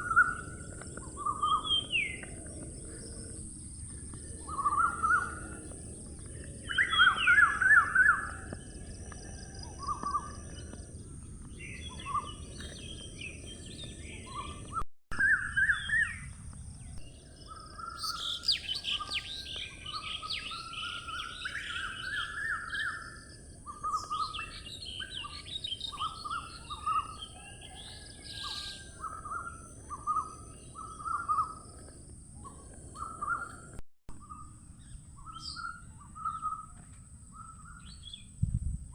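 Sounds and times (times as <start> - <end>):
songbirds singing and calling: 0.0 - 38.5.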